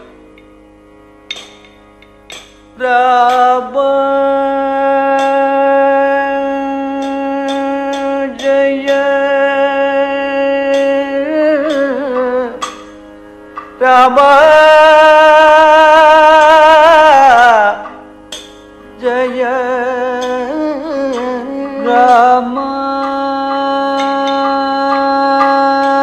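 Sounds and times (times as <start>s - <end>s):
faint steady drone: 0.0s - 26.0s
percussion strokes: 0.0s - 26.0s
man singing: 2.8s - 12.8s, 13.8s - 18.0s, 19.0s - 26.0s.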